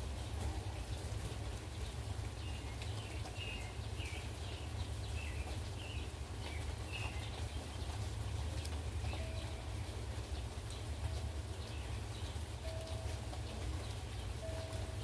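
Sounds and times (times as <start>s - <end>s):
steady rain: 0.0s - 15.0s
bird chirping: 1.6s - 15.0s.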